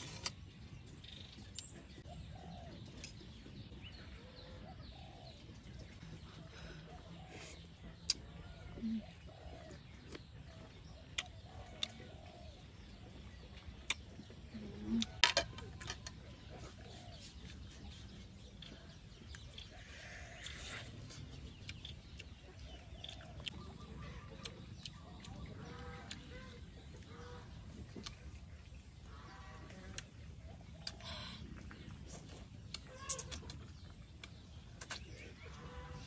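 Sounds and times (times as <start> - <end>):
crunching of eating fried food: 5.6 - 36.0.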